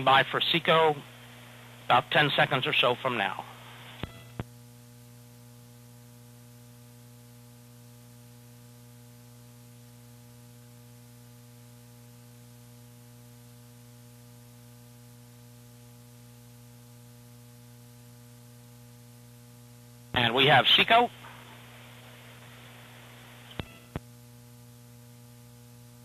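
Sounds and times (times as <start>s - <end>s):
electrical hum with hiss: 0.0s - 26.0s.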